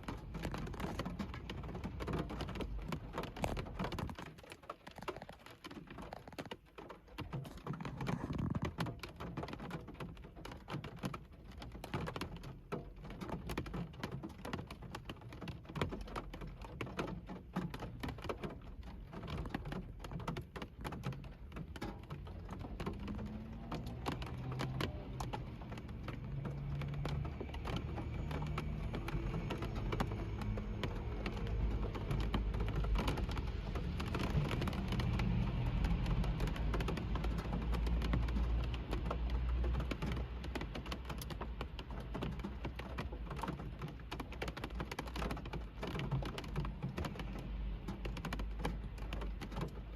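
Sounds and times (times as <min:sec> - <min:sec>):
raindrops pattering on car roof: 0:00.0 - 0:49.9.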